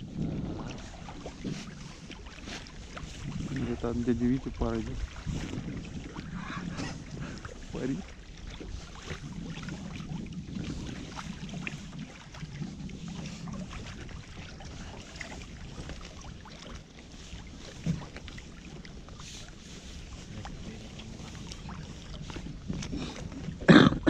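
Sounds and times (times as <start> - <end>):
floats tapping against hull: 0.0 - 24.0
wind and water rumble: 0.0 - 24.0.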